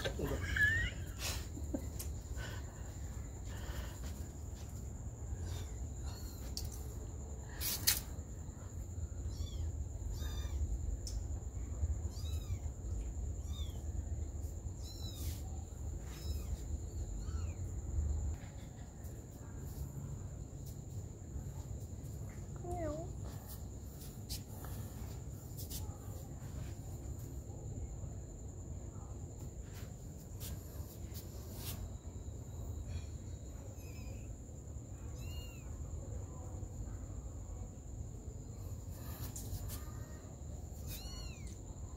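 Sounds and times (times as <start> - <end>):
crickets droning: 0.0 - 41.9.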